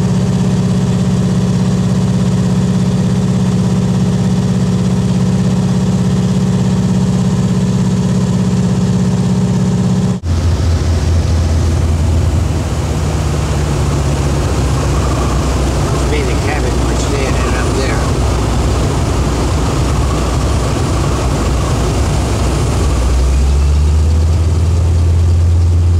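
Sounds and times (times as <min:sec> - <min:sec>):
propeller engine droning: 0:00.0 - 0:25.9.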